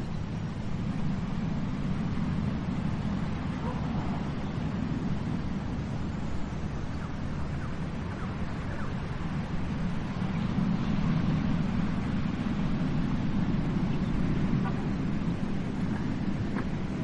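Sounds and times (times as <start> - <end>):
ocean surf on beach: 0.0 - 17.0.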